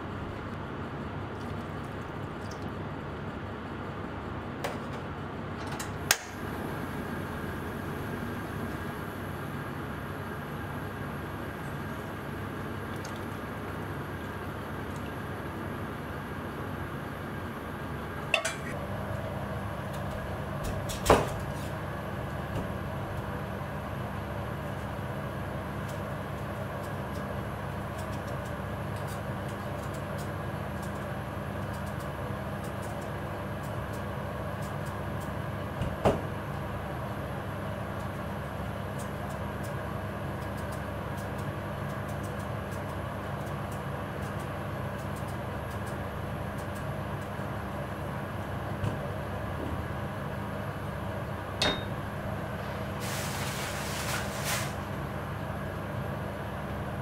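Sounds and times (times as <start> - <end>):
kitchen background hum: 0.0 - 57.0.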